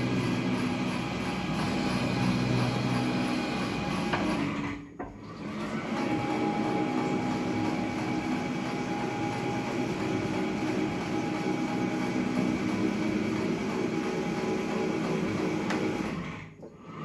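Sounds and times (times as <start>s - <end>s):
metal planer drive noise: 0.0s - 17.0s.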